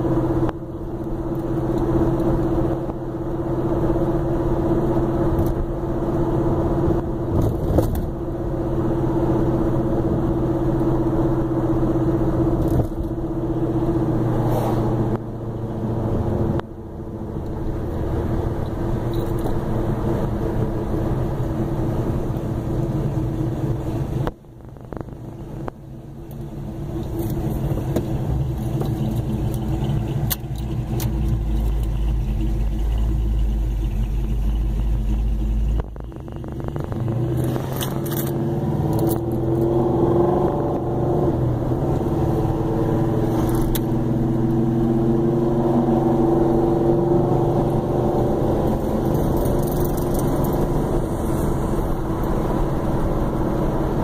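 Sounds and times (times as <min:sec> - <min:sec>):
car engine and road noise: 0:00.0 - 0:54.0
deep low engine rumble: 0:00.0 - 0:54.0.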